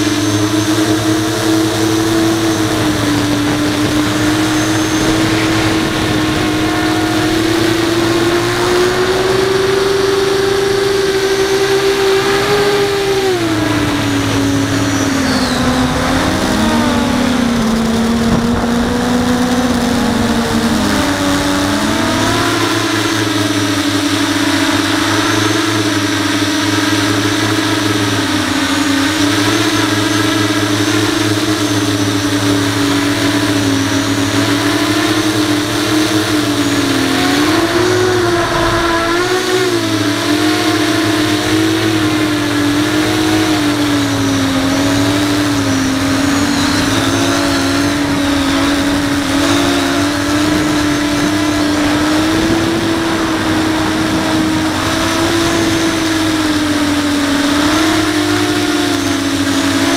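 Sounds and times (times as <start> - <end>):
quadcopter motors buzzing: 0.0 - 59.9.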